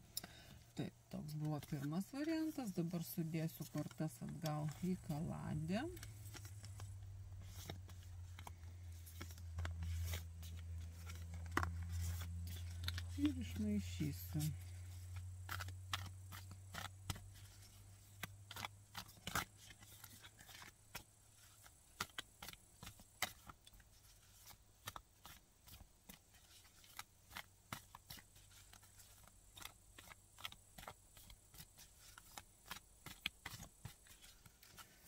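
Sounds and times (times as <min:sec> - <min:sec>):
cards being shuffled: 0:01.2 - 0:35.0.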